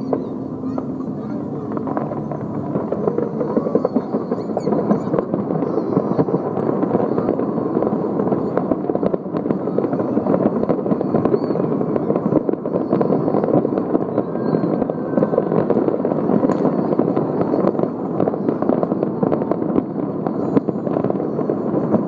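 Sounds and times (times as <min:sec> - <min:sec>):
fireworks pops and bangs: 0:00.0 - 0:22.0.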